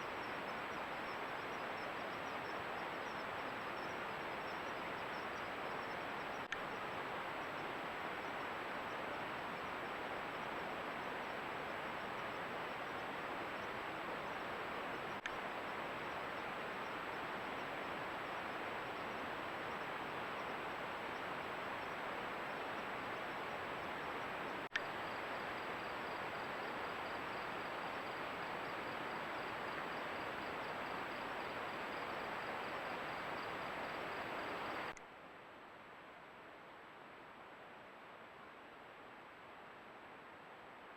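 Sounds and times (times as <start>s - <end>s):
faint high whine: 0.0s - 40.9s
outdoor hiss: 0.0s - 40.9s.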